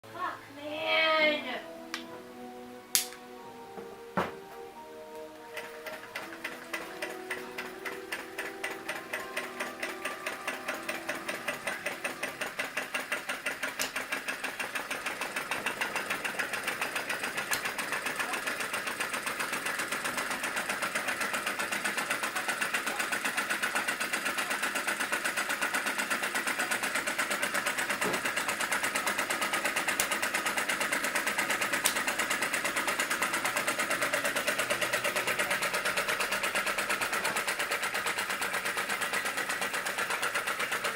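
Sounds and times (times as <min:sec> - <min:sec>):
model engine popping and clicking: 0:05.5 - 0:40.9.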